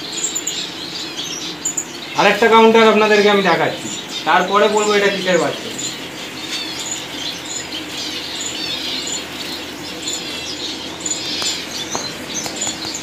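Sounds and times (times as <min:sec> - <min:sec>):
finches chirping and twittering: 0:00.0 - 0:13.0.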